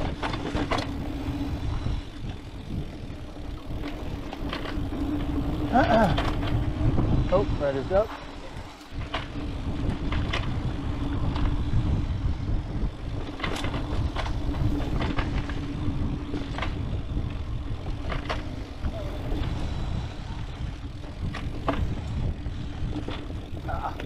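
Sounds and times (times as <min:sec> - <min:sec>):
bike clicks and rattles: 0:00.0 - 0:24.0
bike rolling on dirt trail: 0:00.0 - 0:24.0.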